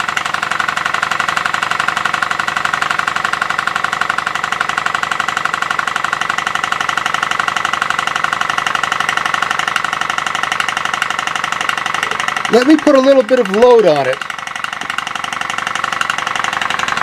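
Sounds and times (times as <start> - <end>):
steam engine chuffing: 0.0 - 17.0.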